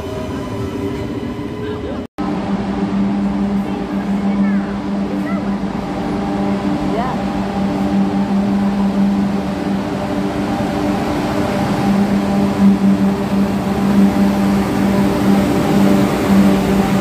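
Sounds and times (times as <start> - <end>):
high-speed train rumble: 0.0 - 17.0.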